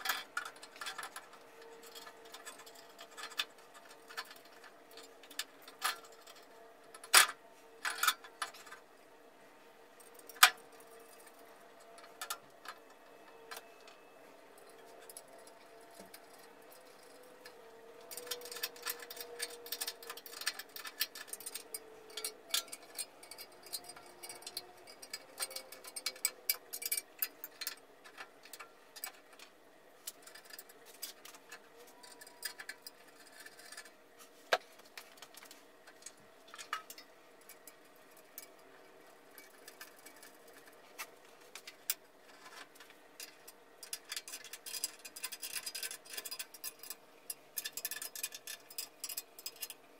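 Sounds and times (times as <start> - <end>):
rapid small metallic clicks: 0.0 - 8.8, 14.6 - 34.0, 34.6 - 49.9.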